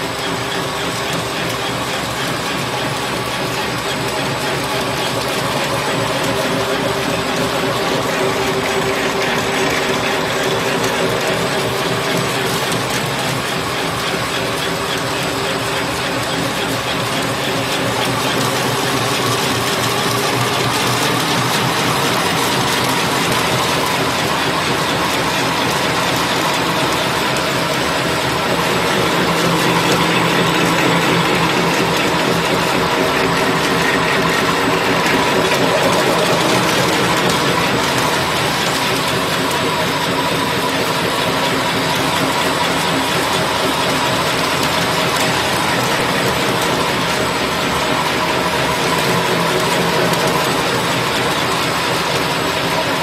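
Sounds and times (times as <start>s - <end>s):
machine hum: 0.0s - 53.0s
wrapping machine clattering: 0.1s - 53.0s.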